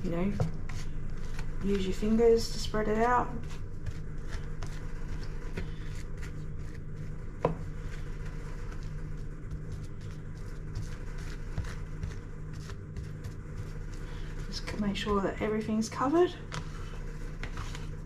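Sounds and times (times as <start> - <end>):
scraper scratching crumbly topping: 0.0 - 18.0
steady low hum: 0.0 - 18.0.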